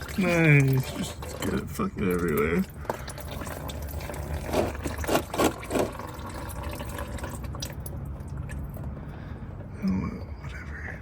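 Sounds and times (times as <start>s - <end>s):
oil dripping: 0.0s - 11.0s.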